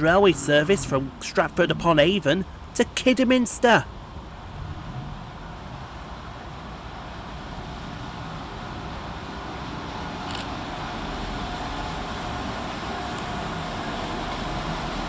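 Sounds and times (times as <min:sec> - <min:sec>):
diesel train running: 0:00.0 - 0:15.0.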